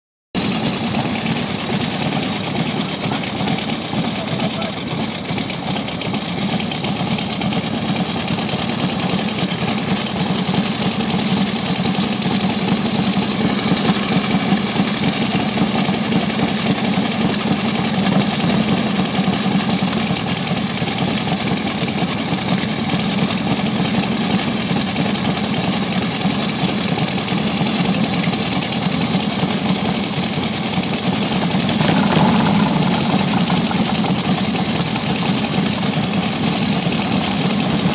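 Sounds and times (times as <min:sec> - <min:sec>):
motorcycle engine running: 0:00.4 - 0:37.9.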